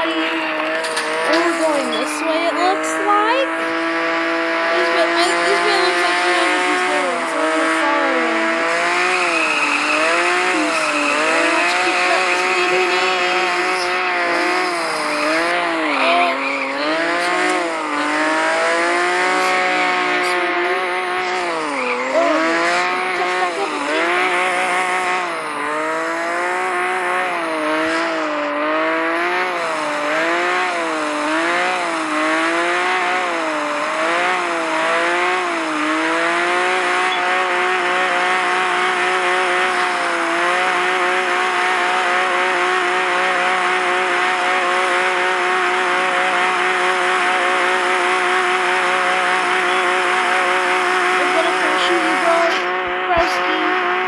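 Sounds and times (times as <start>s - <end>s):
video game car engine: 0.0s - 54.0s.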